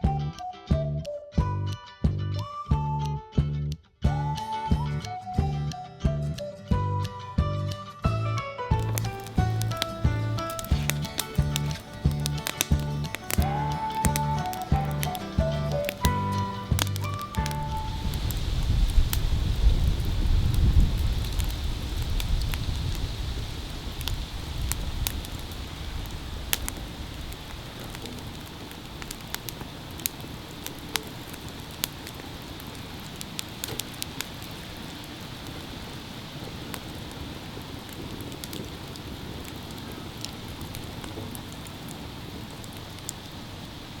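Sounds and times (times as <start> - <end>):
wood fire crackling and popping: 8.7 - 44.0.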